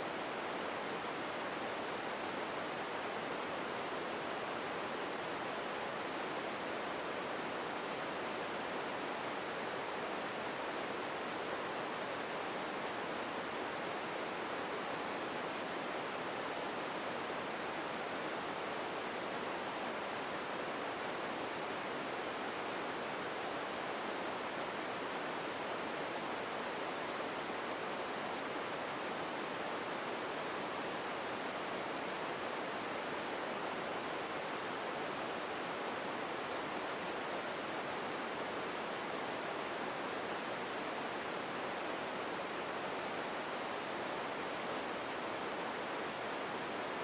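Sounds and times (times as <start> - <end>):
steady room hiss: 0.0 - 47.0.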